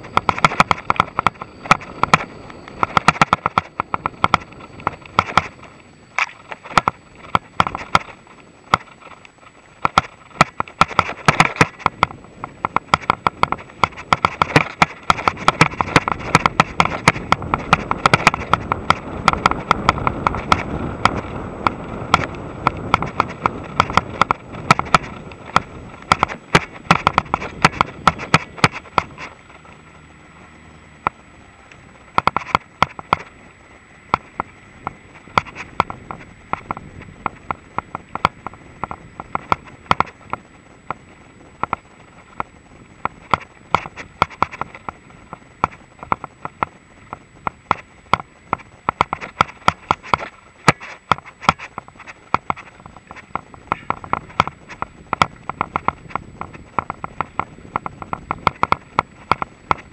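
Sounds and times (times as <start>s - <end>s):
bike rattling and knocking: 0.0s - 59.9s
tyre and wind rushing: 0.0s - 59.9s.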